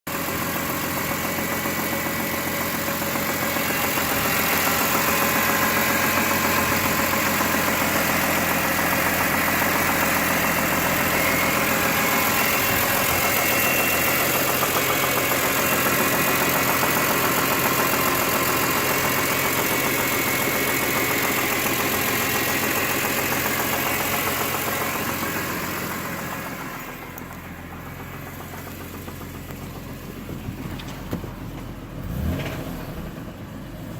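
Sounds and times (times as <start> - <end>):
car engine running with knocking: 0.1 - 33.9.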